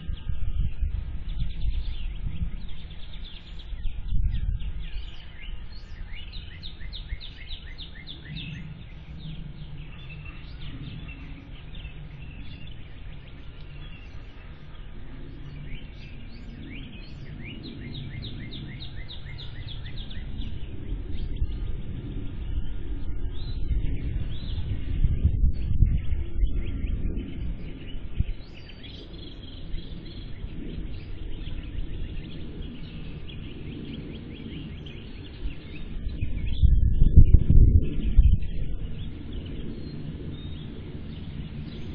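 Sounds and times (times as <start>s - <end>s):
birds chirping: 0.0s - 41.9s
low rumble: 0.0s - 41.9s.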